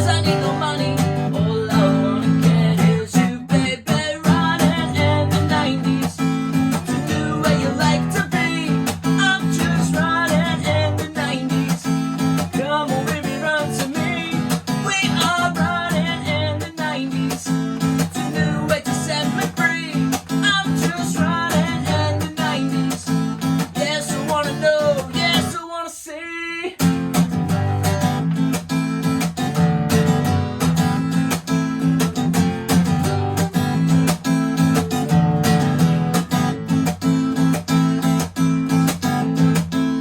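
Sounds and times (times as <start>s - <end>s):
acoustic guitar strumming: 0.0s - 25.7s, 26.7s - 40.0s.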